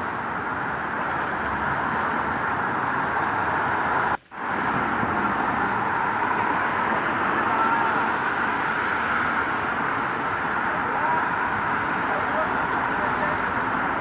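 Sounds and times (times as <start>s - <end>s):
steady rain: 0.0s - 14.0s
street traffic passing: 0.0s - 14.0s.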